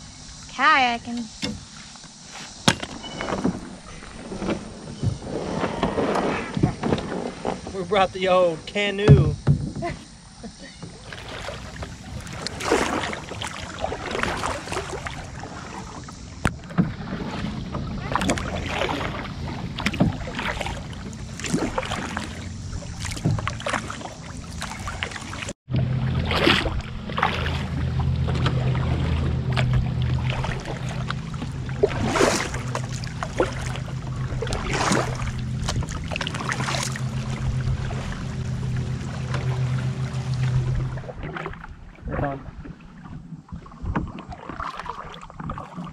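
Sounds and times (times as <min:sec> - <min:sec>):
canoe paddles splashing water: 0:00.3 - 0:45.9.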